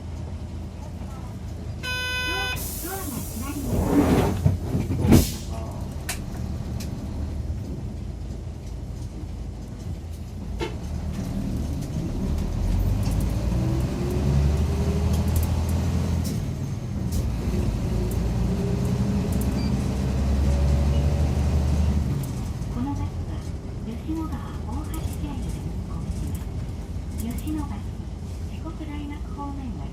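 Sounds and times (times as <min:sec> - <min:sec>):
bus diesel engine running: 0:00.0 - 0:29.9.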